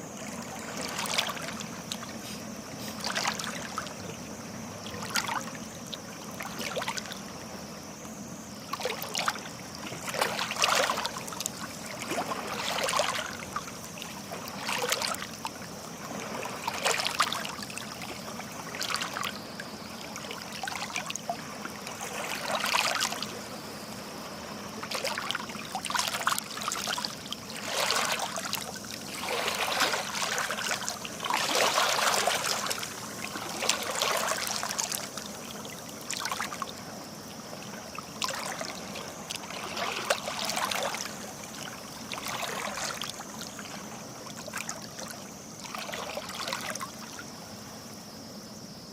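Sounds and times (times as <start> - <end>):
sea water lapping and splashing: 0.0 - 48.4.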